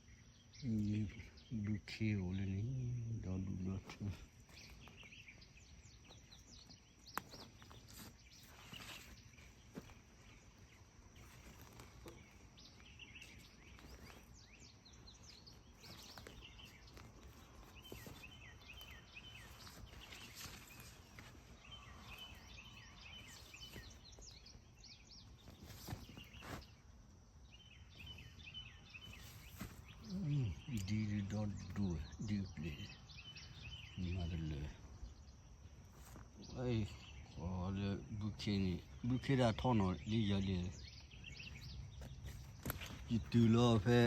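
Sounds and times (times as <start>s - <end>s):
low background hiss: 0.0s - 44.0s
small birds chirping: 0.0s - 44.0s.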